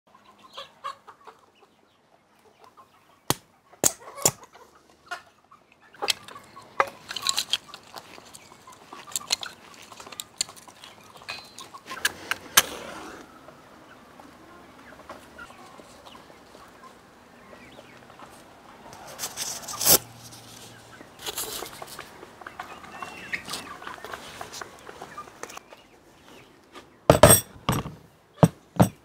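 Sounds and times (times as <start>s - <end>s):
hen clucking: 0.1s - 12.4s, 13.2s - 26.6s.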